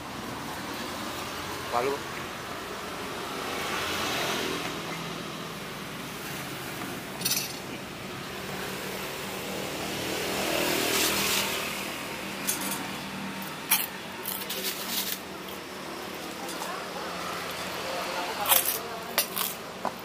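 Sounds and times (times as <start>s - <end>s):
motor traffic passing: 0.0s - 20.0s.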